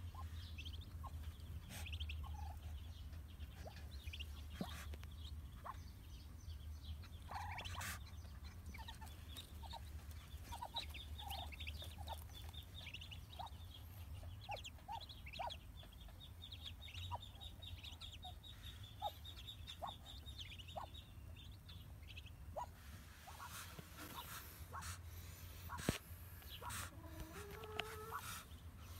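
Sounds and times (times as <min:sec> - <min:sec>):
ducklings peeping: 0:00.0 - 0:28.9.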